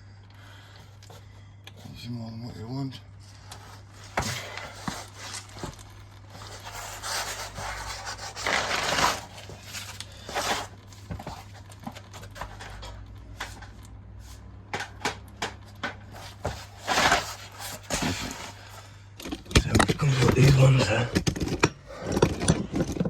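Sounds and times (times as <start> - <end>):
hands rubbing and scraping parts: 3.4 - 23.0.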